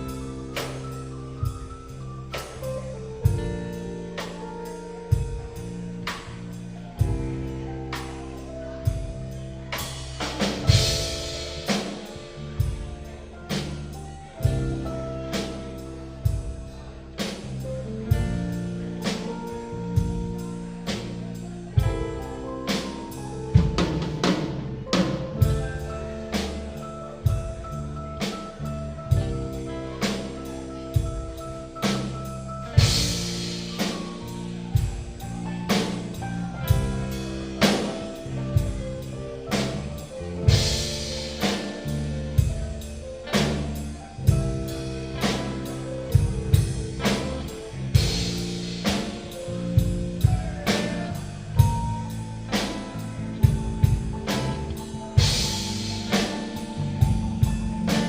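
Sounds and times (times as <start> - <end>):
drum kit beat: 0.0 - 58.0
live rock band playing: 0.0 - 58.0.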